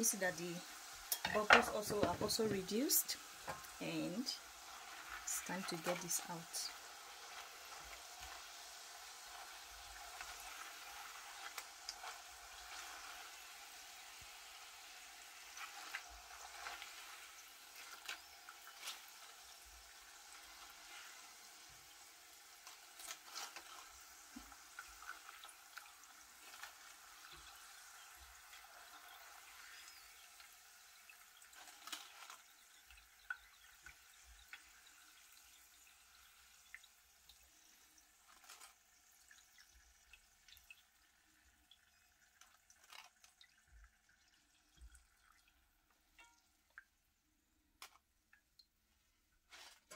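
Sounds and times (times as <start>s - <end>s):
hot oil sizzling: 0.0s - 47.1s.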